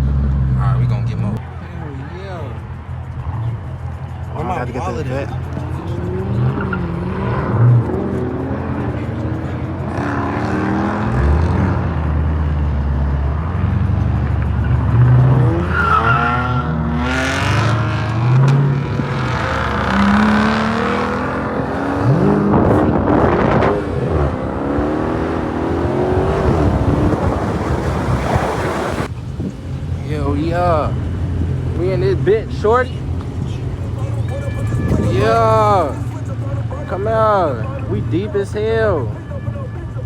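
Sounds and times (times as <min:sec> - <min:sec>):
car engines revving: 0:00.0 - 0:40.0
tires squealing: 0:00.0 - 0:40.0.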